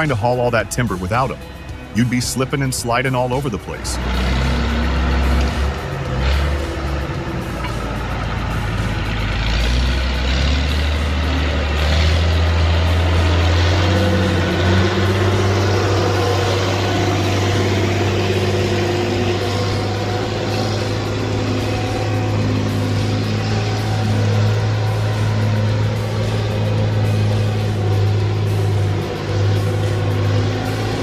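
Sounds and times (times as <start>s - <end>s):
heavy machine engine running: 0.0s - 31.0s.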